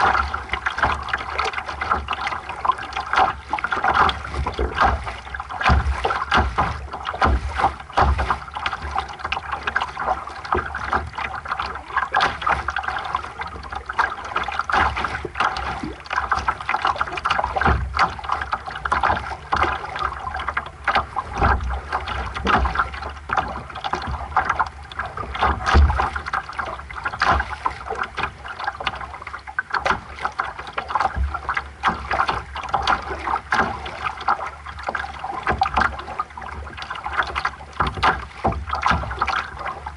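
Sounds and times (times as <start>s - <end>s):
water lapping against boat hull: 0.0s - 39.9s.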